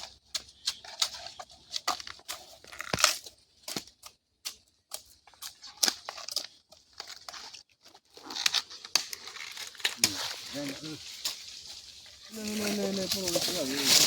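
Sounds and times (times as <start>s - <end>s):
dry leaves and twigs crackling: 0.0s - 14.0s.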